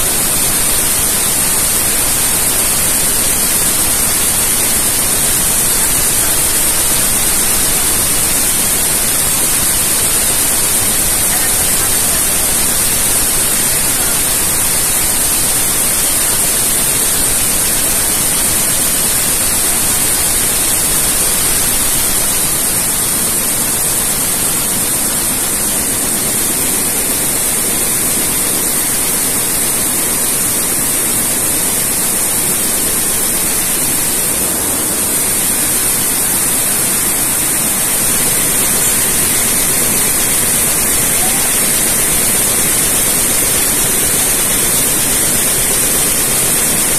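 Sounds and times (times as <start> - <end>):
high machine hiss: 0.0 - 46.9
weaving loom running: 0.0 - 46.9.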